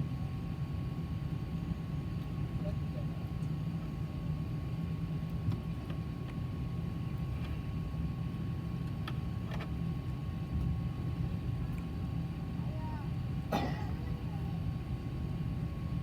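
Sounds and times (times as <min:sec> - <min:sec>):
faint steady whine: 0:00.0 - 0:16.0
aircraft cabin rumble: 0:00.1 - 0:16.0.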